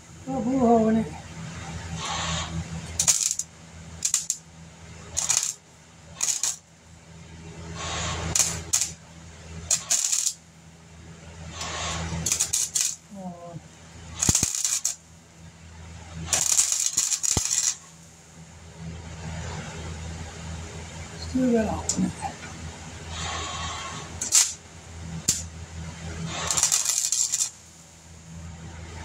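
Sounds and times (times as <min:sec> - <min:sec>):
welder crackling: 0:00.0 - 0:06.8, 0:07.6 - 0:18.3, 0:21.2 - 0:28.5.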